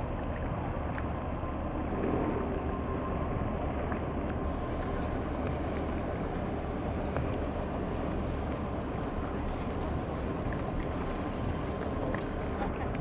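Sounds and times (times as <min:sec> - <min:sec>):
ship low rumble: 0:00.0 - 0:13.0.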